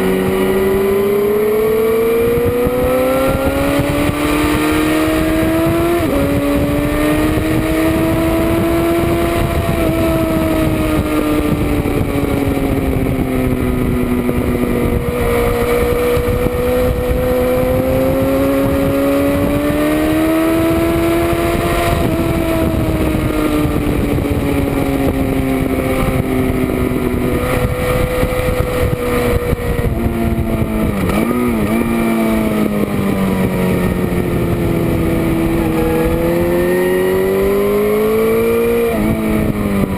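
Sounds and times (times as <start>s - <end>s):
motorcycle engine running hard: 0.0s - 39.9s
wind rush: 0.0s - 39.9s.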